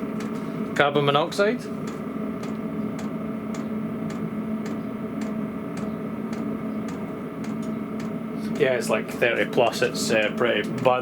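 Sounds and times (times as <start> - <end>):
fuel pump ticking: 0.0 - 0.8, 1.8 - 11.0
heater fan and burner hum: 0.0 - 11.0.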